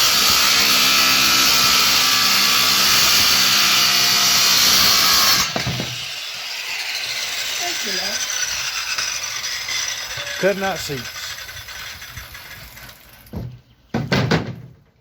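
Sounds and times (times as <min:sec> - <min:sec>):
electric jigsaw cutting wood: 0:00.0 - 0:13.0.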